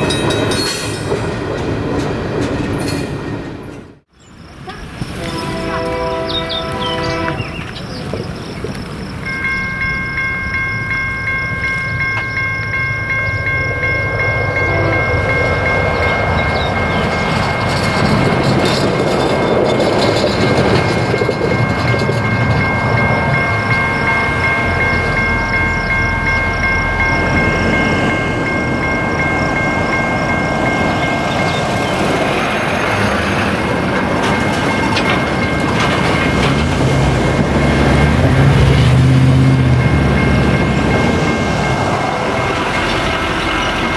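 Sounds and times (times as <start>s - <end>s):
railroad crossing bell ringing: 0.0s - 1.7s, 4.4s - 43.9s
train rumble and wheel clatter: 0.0s - 43.9s.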